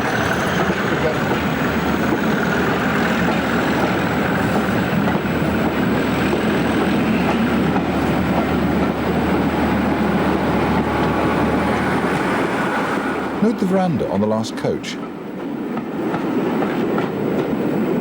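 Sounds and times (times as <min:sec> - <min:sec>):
diesel locomotive engine: 0:00.0 - 0:18.0
train coaches rolling: 0:00.0 - 0:18.0.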